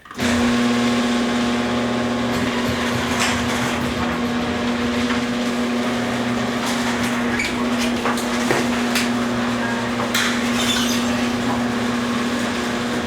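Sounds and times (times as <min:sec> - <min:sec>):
garage door motor humming: 0:00.0 - 0:13.0
door rollers clicking and knocking: 0:00.2 - 0:13.0.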